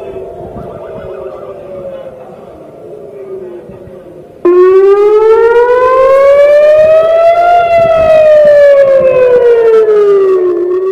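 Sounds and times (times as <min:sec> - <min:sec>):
air-raid siren wailing: 0:00.0 - 0:10.9.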